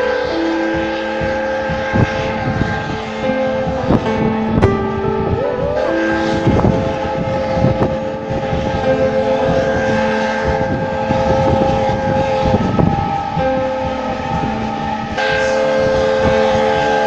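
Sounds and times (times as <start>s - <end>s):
locomotive horn long notes: 0.0s - 17.0s.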